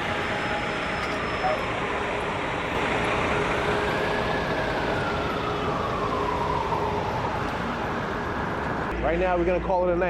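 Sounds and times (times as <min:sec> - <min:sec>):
emergency vehicle siren wailing: 0:00.0 - 0:09.0
street traffic noise: 0:00.0 - 0:10.0.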